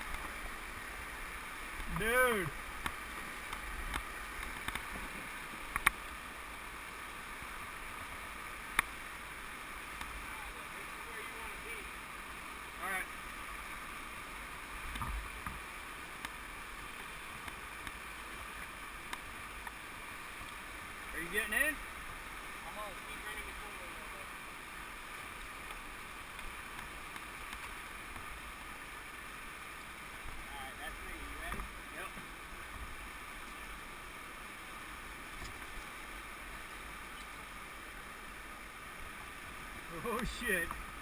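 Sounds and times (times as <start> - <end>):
whitewater rushing: 0.0 - 41.0.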